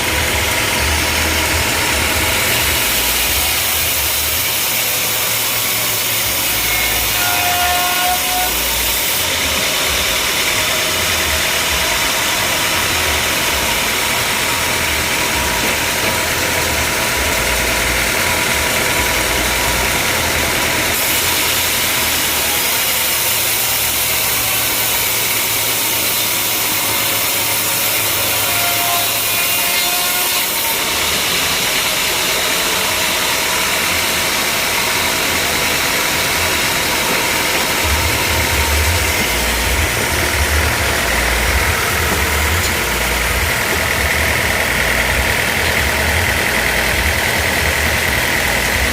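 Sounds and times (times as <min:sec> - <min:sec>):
engine noise: 0:00.0 - 0:48.9
saw cutting through wood: 0:00.0 - 0:48.9.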